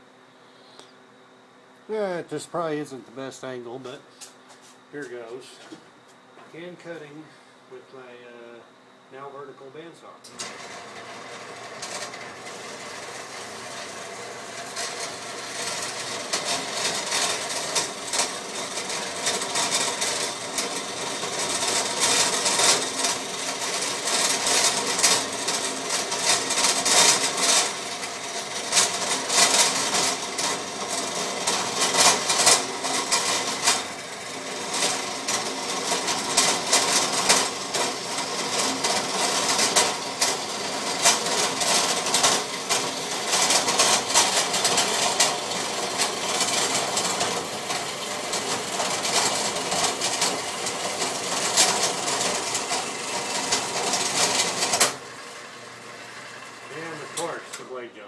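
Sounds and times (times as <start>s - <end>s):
bandsaw cutting steel: 10.3s - 57.8s.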